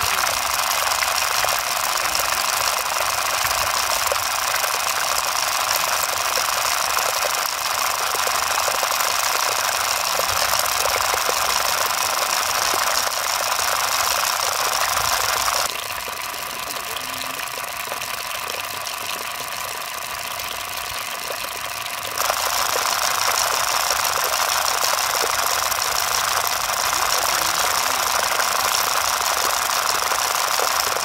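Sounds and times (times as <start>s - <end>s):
small water pump whining and rattling: 0.0s - 31.0s
water splashing: 0.0s - 31.0s.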